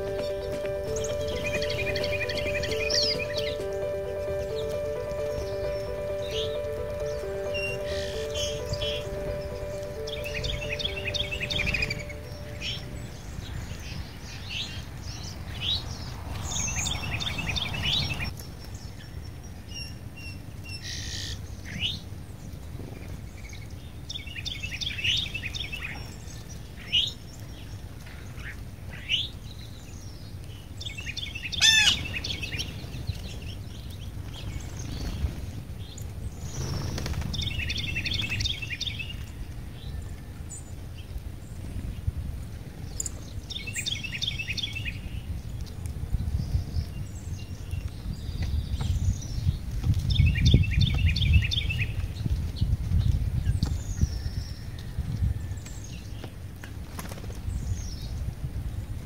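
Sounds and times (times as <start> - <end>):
songbirds chirping and whistling: 0.0 - 22.0, 23.0 - 41.8, 42.8 - 56.4.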